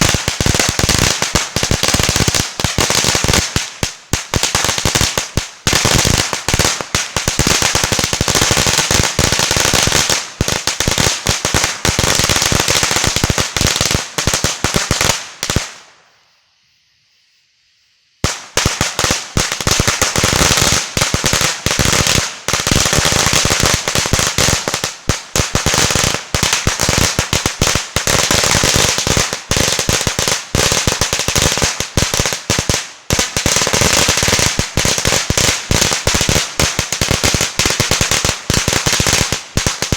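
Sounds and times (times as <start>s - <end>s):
firecrackers crackling: 0.0s - 16.2s, 18.2s - 39.9s.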